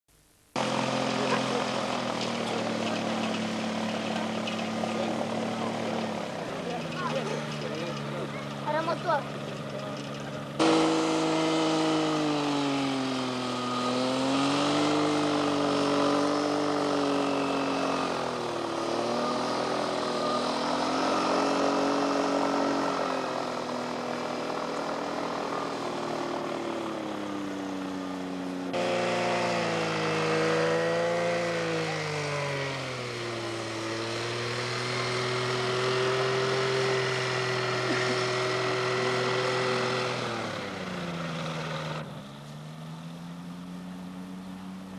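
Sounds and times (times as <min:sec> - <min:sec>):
motorised hang glider engine and propeller: 0:00.5 - 0:44.9.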